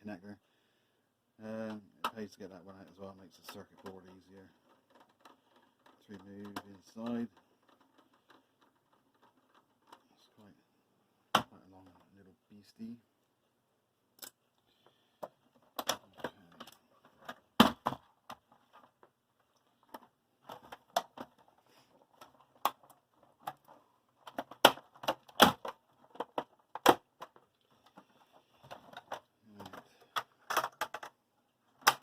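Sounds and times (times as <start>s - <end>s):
plastic and metal parts clicking: 1.6s - 10.1s, 14.2s - 32.0s.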